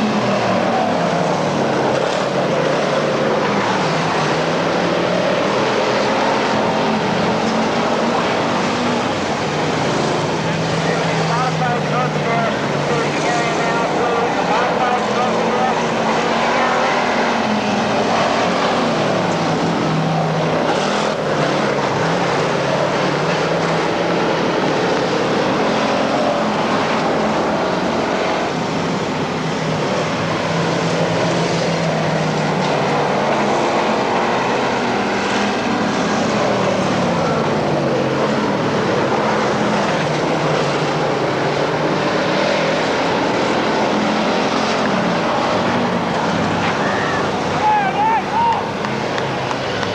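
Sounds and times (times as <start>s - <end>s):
race car engines: 0.0s - 49.9s.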